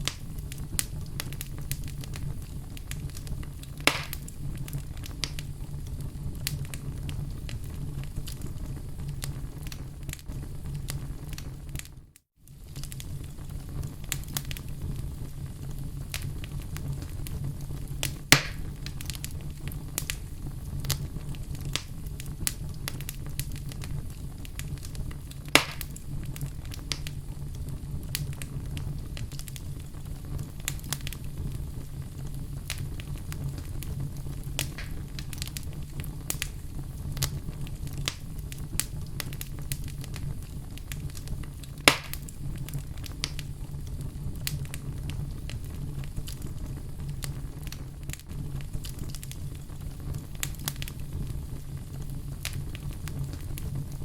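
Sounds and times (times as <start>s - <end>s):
fire burning in fireplace: 0.0s - 54.0s
fire crackling: 0.0s - 54.0s
loud fire pops: 0.0s - 54.0s.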